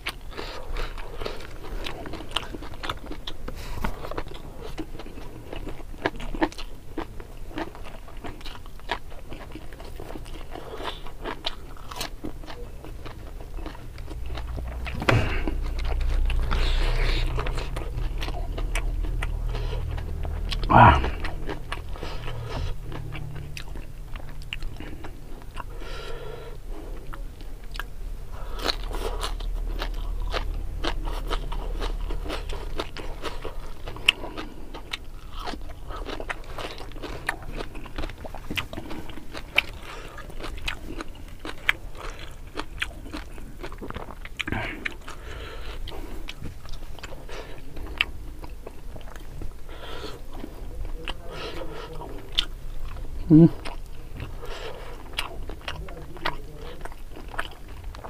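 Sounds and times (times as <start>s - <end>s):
person chewing and crunching: 0.0s - 58.0s.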